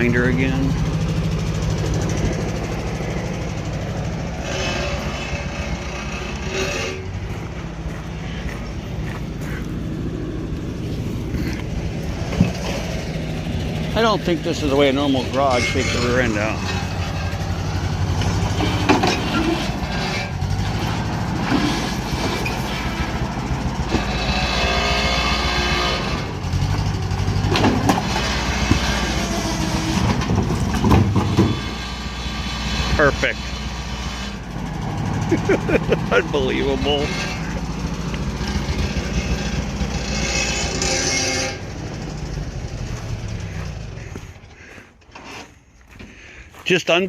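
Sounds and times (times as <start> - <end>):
engine running steadily: 0.0 - 46.8.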